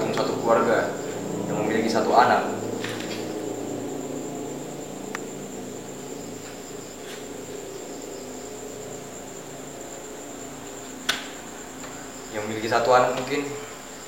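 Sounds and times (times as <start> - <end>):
high-pitched insect drone: 0.0 - 14.0
low background hum: 0.0 - 14.0.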